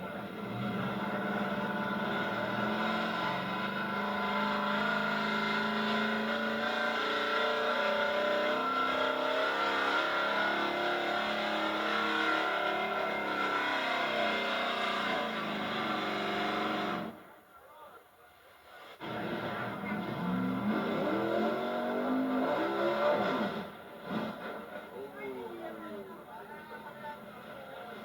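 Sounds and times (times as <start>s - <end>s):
truck engine running at high revs: 0.0s - 17.2s, 19.0s - 25.0s.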